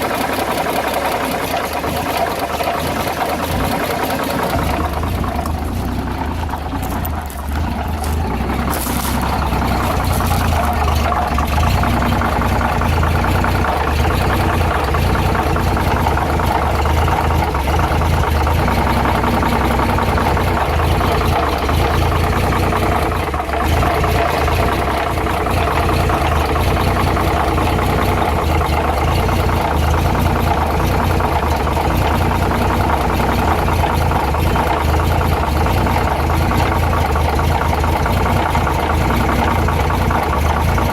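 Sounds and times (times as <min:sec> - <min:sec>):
engine ticking clatter: 0:00.0 - 0:40.9
truck engine running: 0:00.0 - 0:40.9.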